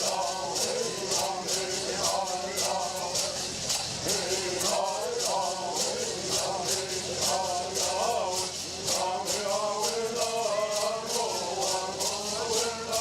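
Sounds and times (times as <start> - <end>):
gourd rattles shaking: 0.0 - 13.0
people chanting together: 0.0 - 13.0.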